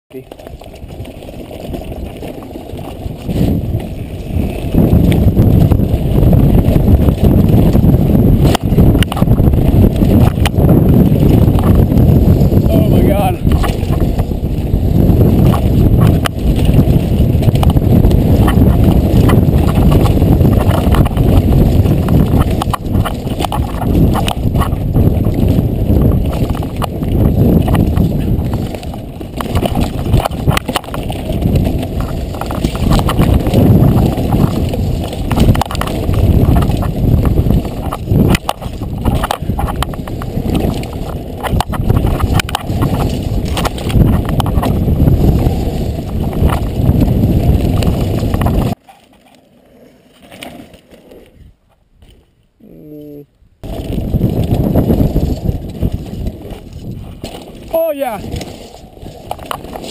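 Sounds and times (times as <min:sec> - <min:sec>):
wind buffeting microphone: 0:00.1 - 0:48.8, 0:53.5 - 0:59.9
tyres rumbling over dirt: 0:00.1 - 0:49.2, 0:53.6 - 0:59.9
bike rattling: 0:00.1 - 0:52.4, 0:53.6 - 0:59.9.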